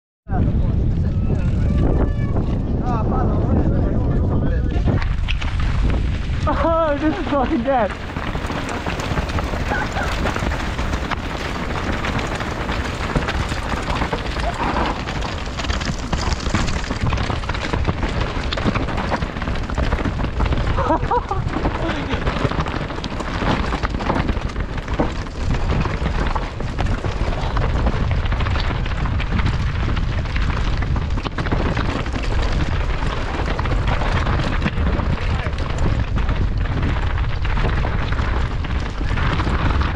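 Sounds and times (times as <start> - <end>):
tyres rolling on rocky trail: 0.3 - 39.9
wind buffeting microphone: 0.3 - 39.9.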